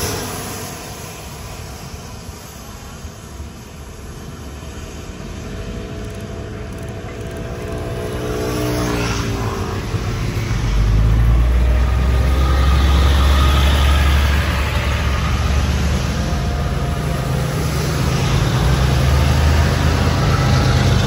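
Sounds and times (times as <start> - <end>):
diesel train passing: 0.0 - 21.0.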